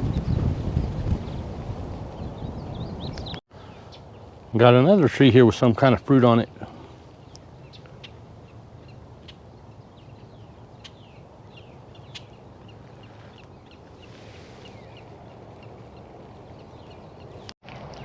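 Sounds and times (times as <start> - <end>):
low outdoor rumble: 0.0 - 17.6
birds chirping: 0.1 - 17.6.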